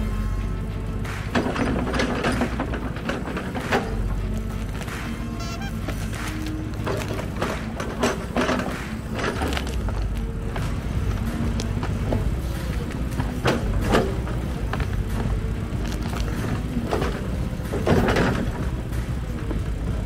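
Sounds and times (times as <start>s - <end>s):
diesel engine running: 0.0s - 20.0s
sharp knocks and clanks: 0.9s - 20.0s.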